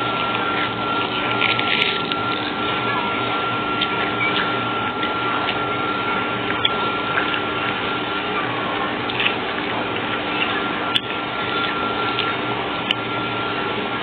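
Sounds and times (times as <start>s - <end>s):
crispy snack being chewed: 0.0s - 2.7s, 3.7s - 8.0s, 8.8s - 13.1s
machine noise with high whine: 0.0s - 14.0s.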